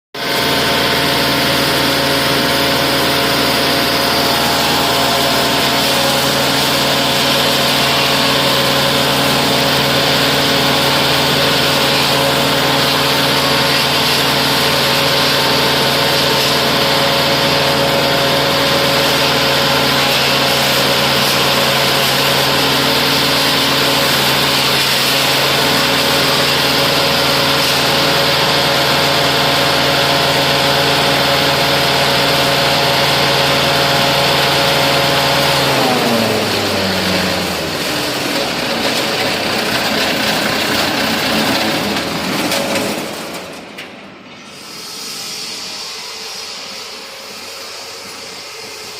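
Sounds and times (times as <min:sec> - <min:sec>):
wood chipper diesel engine: 0:00.2 - 0:48.9.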